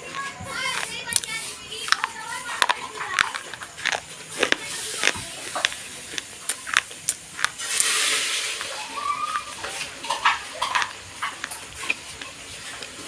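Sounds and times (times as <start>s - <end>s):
pencil crunching while chewed: 0.0s - 13.0s.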